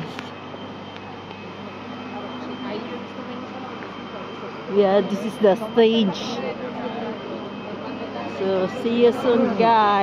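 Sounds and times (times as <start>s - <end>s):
outdoor machinery hum: 0.0s - 10.0s.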